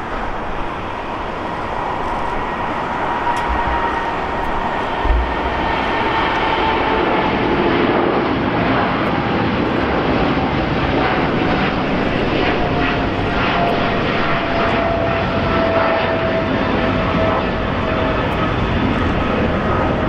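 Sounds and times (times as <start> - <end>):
jet engines at takeoff power: 0.0 - 20.0.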